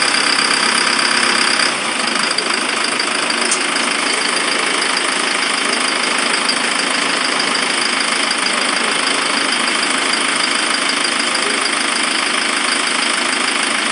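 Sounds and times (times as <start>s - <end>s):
tractor diesel engine idling: 0.0s - 13.9s.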